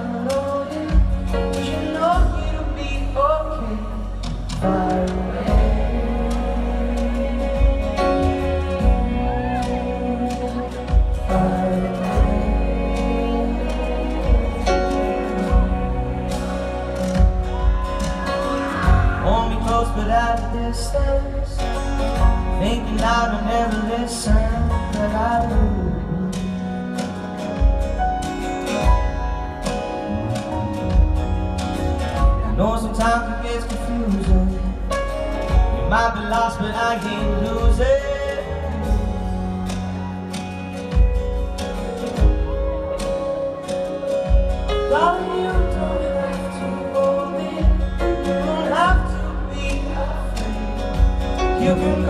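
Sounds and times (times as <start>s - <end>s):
man singing: 0.0s - 27.7s, 32.0s - 40.5s, 41.6s - 52.0s
live pop-rock band playing: 0.0s - 52.0s.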